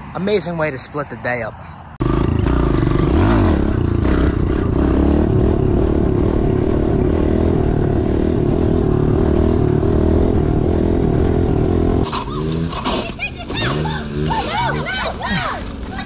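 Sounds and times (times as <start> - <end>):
small motorcycle engine revving: 2.0 - 14.9.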